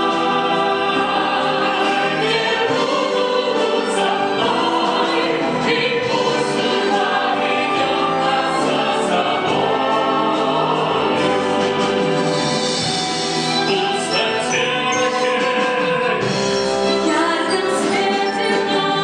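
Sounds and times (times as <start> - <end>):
cast and chorus singing: 0.0 - 12.2, 13.4 - 19.0.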